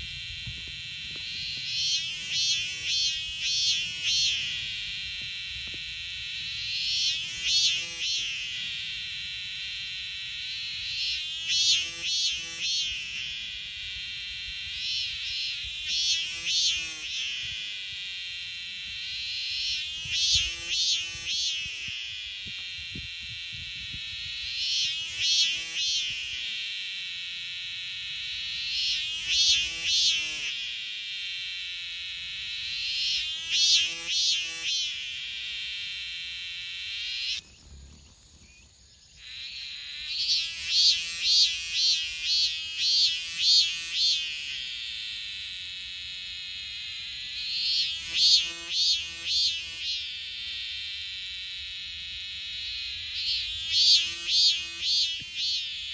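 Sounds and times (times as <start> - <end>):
cicada buzzing: 0.0 - 55.9
cicada pulsing phrases: 0.0 - 55.9.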